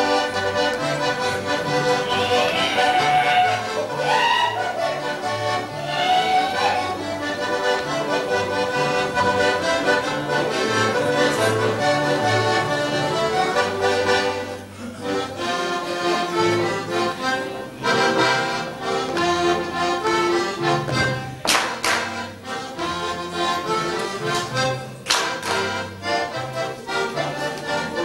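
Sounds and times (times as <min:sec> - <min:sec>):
accordion folk dance tune: 0:00.0 - 0:28.0
guitar accompaniment: 0:00.0 - 0:28.0.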